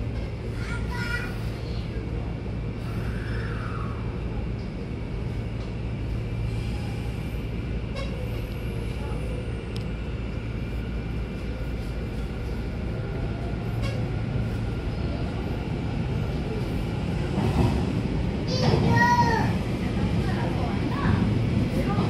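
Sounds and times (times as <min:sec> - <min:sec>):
train hum and rumble: 0:00.0 - 0:22.0.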